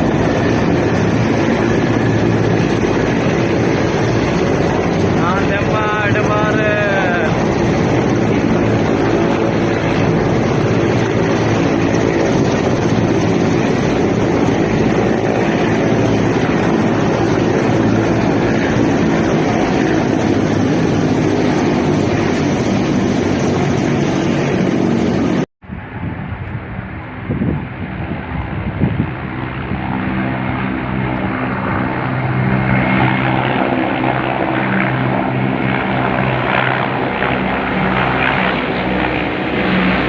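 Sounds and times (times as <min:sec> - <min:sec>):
aircraft engines droning: 0:00.0 - 0:40.0.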